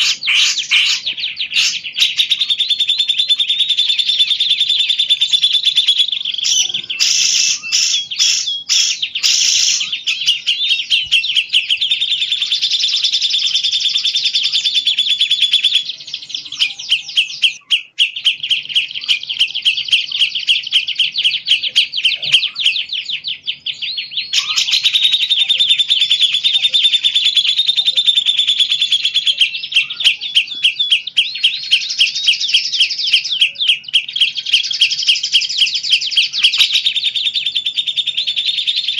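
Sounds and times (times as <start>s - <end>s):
songbird chirps and trills: 0.0s - 38.9s.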